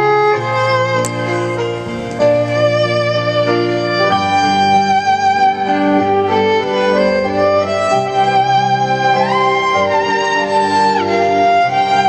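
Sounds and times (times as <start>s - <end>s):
low accompaniment: 0.0s - 12.0s
violin playing slow melody: 0.0s - 12.0s.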